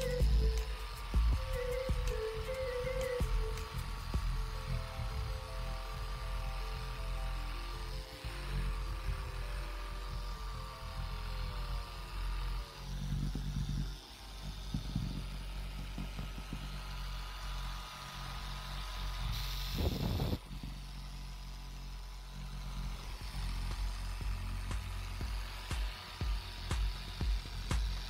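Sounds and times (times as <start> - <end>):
rotary buffer motor whine: 0.0 - 28.0.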